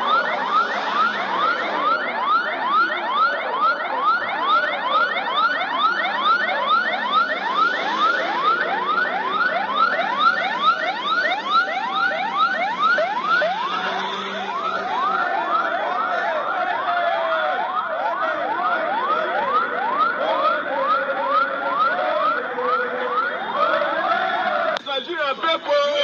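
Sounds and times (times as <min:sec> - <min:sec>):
electronic siren yelping: 0:00.0 - 0:24.8
siren wail: 0:00.0 - 0:26.0.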